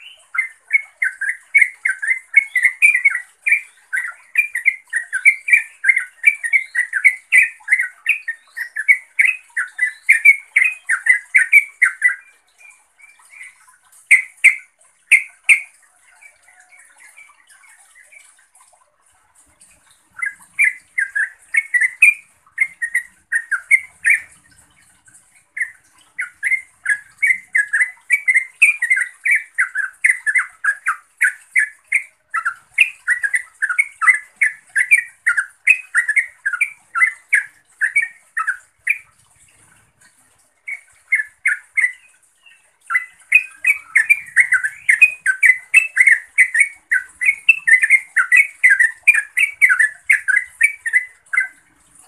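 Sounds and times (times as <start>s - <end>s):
bird chattering song: 0.0s - 18.4s, 19.8s - 51.7s.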